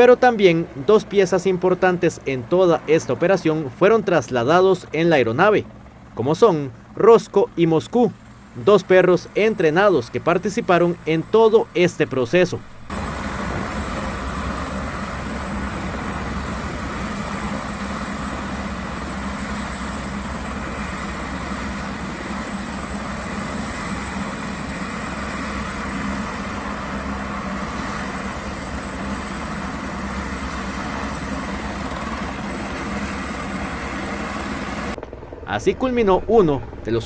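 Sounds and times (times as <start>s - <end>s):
helicopter idling: 0.0s - 37.0s.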